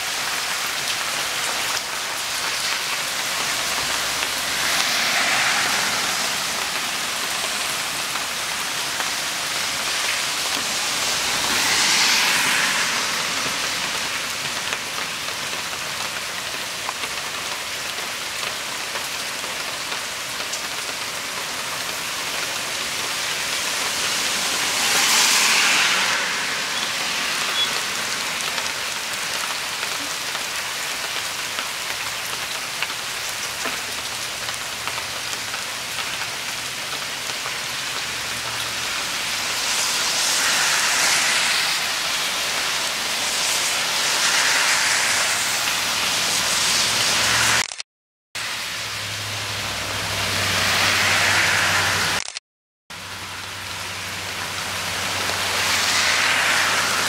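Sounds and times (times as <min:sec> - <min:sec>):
heavy rain on grass: 0:00.0 - 0:47.8, 0:48.4 - 0:57.0.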